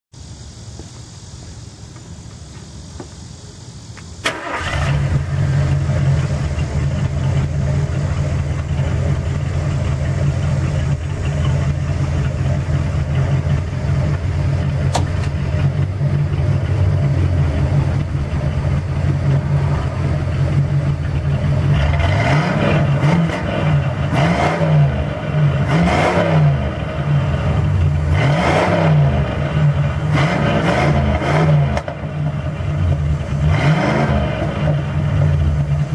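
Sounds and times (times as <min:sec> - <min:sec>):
car engine starting and idling: 0:00.5 - 0:35.9
engine revving: 0:04.2 - 0:35.9.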